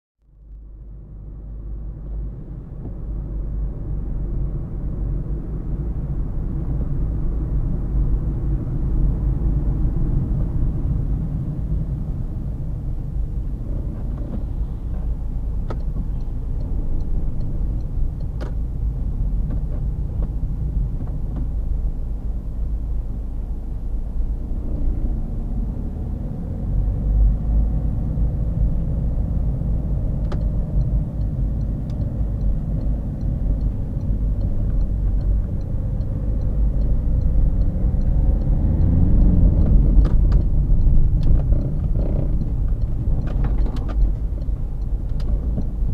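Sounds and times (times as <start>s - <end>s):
car engine and tyre rumble: 0.2s - 45.9s.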